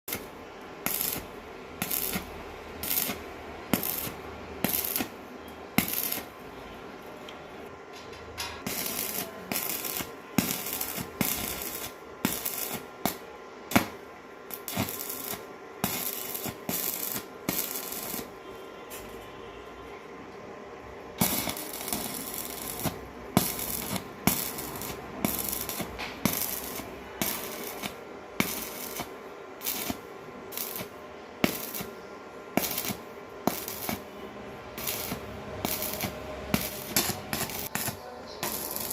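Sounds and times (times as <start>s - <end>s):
welding crackle: 0.1s - 6.4s, 8.4s - 18.4s, 21.2s - 38.9s.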